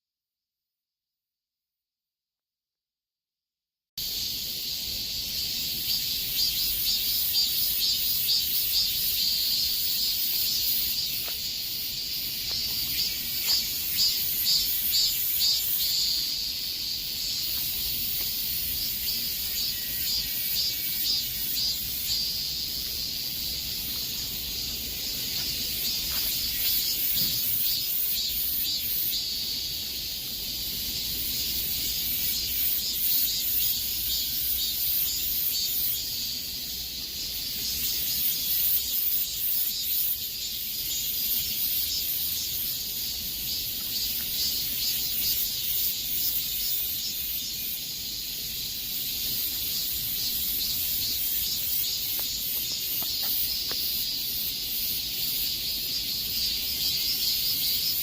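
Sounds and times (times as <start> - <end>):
cicadas buzzing: 4.0 - 58.0.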